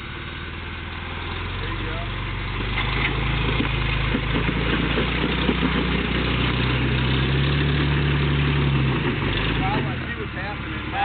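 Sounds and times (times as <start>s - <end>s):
off-road vehicle engine low revs: 0.0s - 11.0s.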